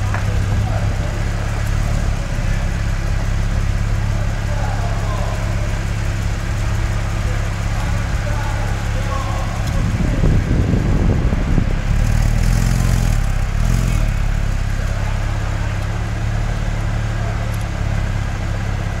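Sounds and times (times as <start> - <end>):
sports car engine at low revs: 0.0 - 19.0.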